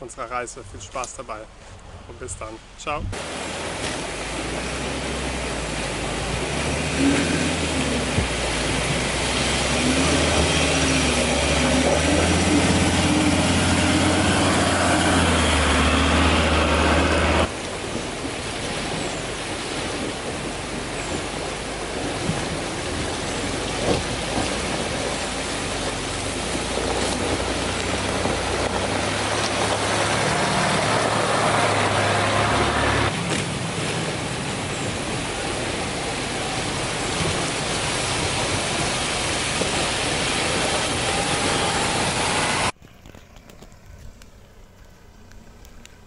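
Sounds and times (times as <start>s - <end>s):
rushing river water: 0.0s - 46.0s
off-road vehicle engines passing: 3.2s - 42.8s.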